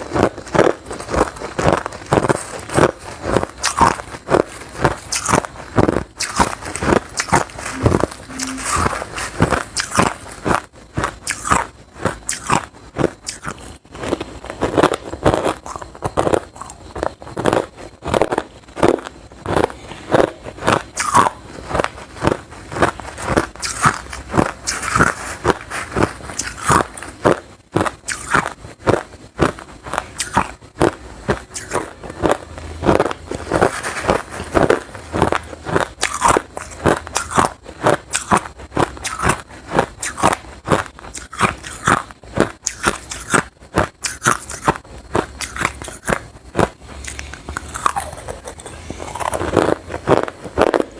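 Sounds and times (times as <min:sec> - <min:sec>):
crunching ice between teeth: 0:00.0 - 0:50.9.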